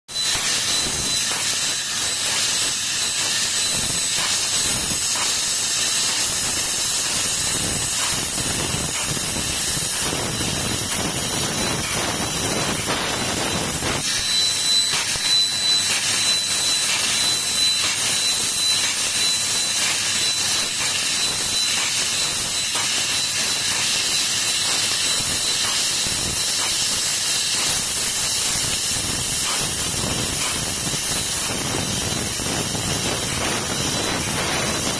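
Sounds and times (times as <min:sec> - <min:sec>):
thin high whine: 0:00.1 - 0:34.9.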